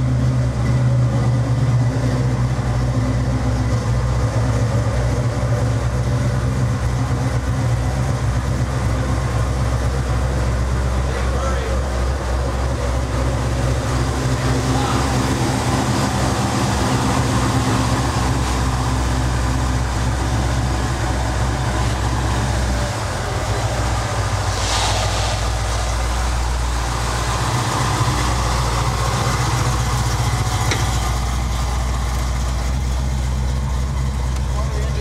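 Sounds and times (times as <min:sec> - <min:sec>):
car engine idling: 0:00.0 - 0:35.0
car pulling away: 0:00.0 - 0:35.0.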